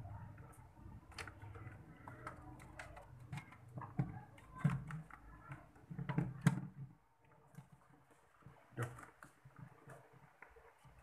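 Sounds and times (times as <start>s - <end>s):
clicks and knocks of plastic parts: 0.3s - 11.0s.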